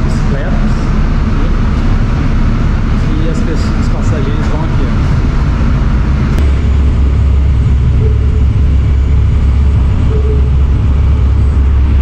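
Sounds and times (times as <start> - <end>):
ferry engine low rumble: 0.0 - 12.0.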